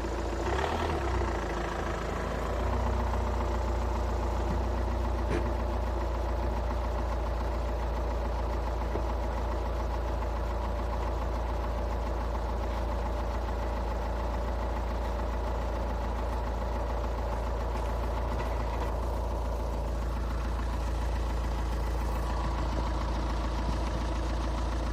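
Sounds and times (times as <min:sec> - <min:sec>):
diesel engine idling with knock: 0:00.0 - 0:24.9.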